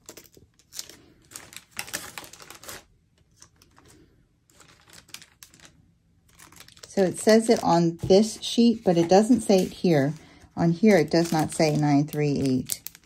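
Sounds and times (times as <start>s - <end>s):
plastic bags crinkling and clicking: 0.0s - 13.0s.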